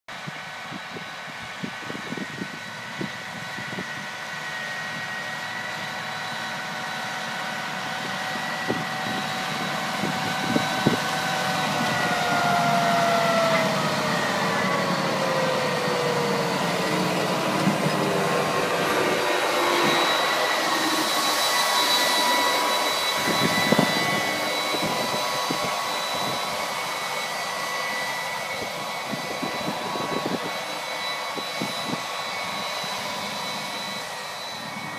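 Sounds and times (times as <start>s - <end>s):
tractor diesel engine whining: 0.3s - 34.9s.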